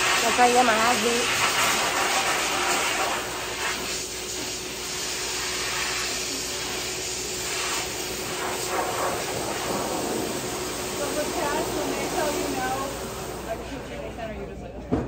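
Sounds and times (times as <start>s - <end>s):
air machine whooshing and humming: 0.0s - 15.0s.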